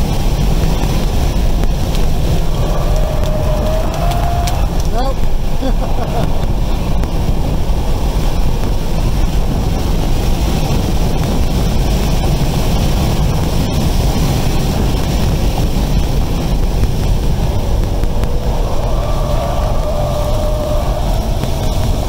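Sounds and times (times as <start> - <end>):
tyre and wind rush: 0.0 - 22.0.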